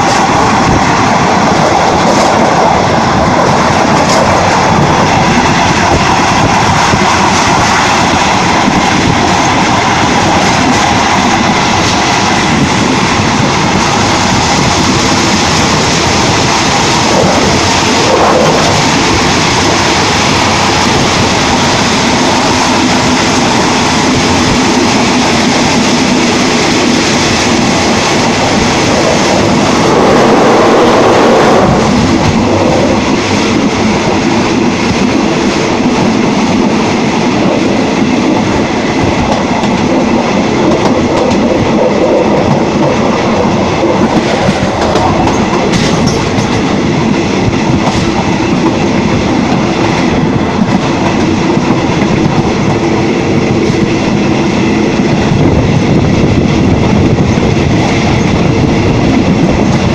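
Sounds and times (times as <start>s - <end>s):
train wheels running on rails: 0.0s - 59.9s.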